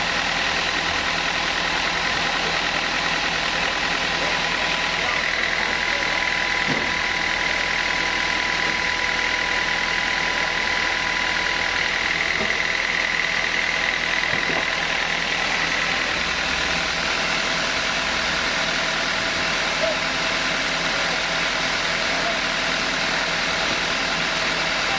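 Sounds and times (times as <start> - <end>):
sawmill machinery whirring: 0.0 - 24.9.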